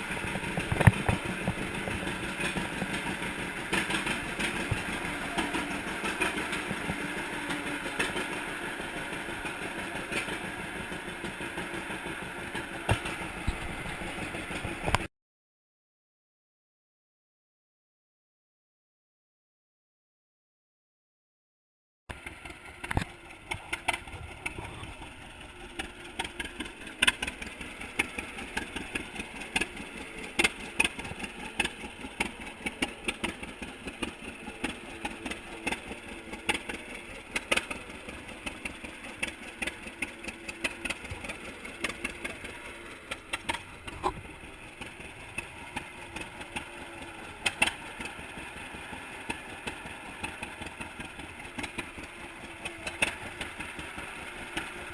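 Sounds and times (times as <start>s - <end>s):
exhaust popping beats: 0.0s - 15.1s, 22.1s - 53.7s
tractor engine running: 0.0s - 15.1s, 22.1s - 54.9s.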